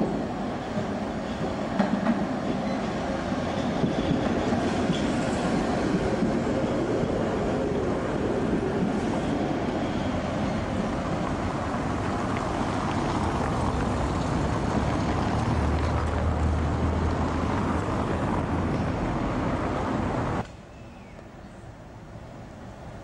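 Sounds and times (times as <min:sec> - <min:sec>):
tram running down the street: 0:00.0 - 0:23.0.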